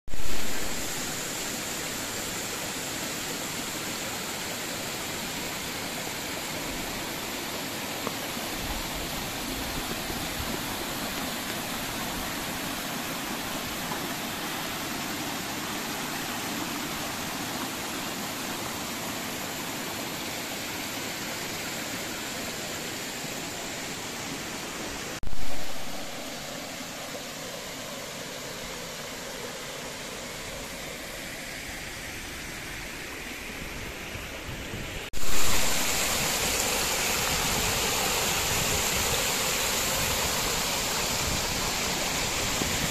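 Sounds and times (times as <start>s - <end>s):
water cascading over rocks: 0.1s - 42.9s.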